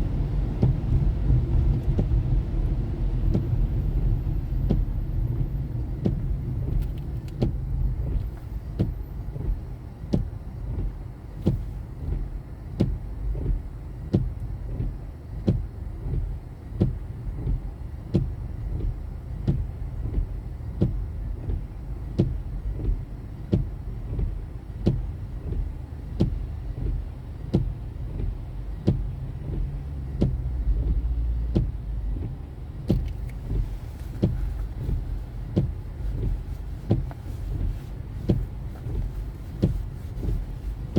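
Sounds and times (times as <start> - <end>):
engine and road rumble: 0.0 - 40.9
turn signal ticking: 0.0 - 40.9.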